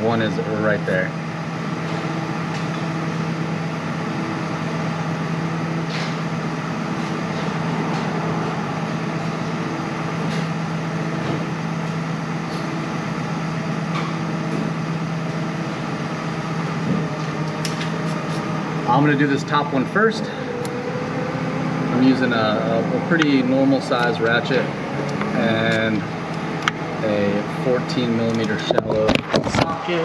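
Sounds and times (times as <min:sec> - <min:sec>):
mechanical drone: 0:00.0 - 0:30.0.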